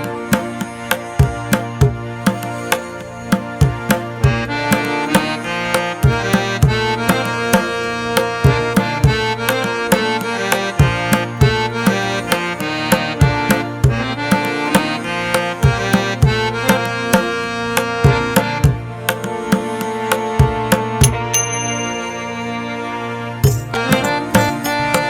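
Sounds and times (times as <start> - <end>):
hand-drum beat: 0.0 - 22.0, 23.4 - 25.0
held melodic line: 0.0 - 25.0.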